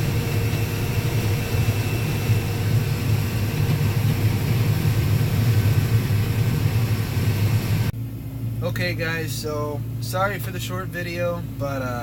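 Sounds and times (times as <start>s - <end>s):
combine harvester drone: 0.0s - 12.0s
faint steady whine: 0.0s - 12.0s.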